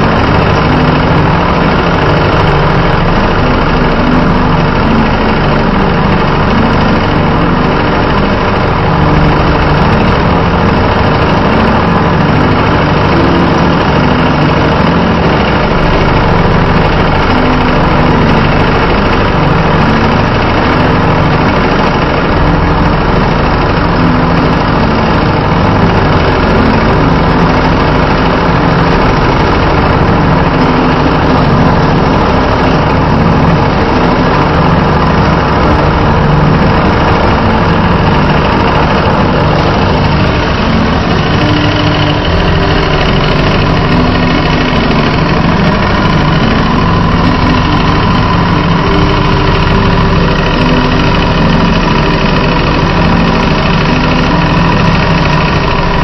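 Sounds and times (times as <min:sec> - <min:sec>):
industrial sewing machine running: 0:00.0 - 0:56.0.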